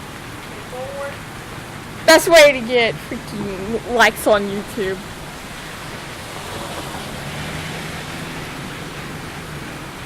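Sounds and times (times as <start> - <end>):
heavy rain: 0.0 - 10.0
running floodwater: 0.0 - 10.0.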